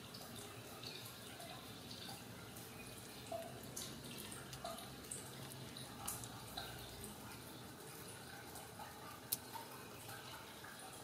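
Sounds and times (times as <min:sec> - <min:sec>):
kittens wet clicks and smacks: 0:01.4 - 0:10.8.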